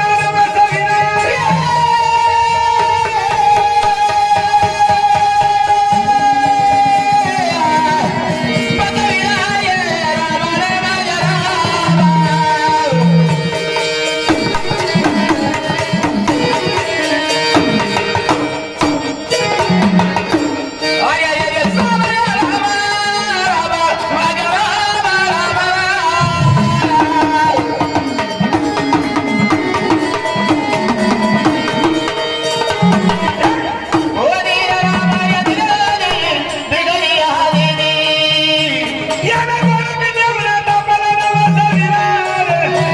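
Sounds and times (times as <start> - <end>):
hand drums beating: 0.0 - 42.9.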